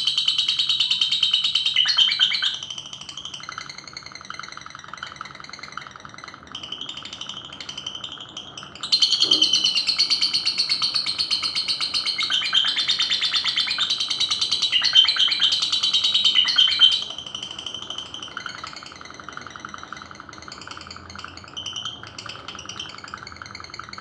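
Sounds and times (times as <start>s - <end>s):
bird chattering trill: 0.0s - 24.0s.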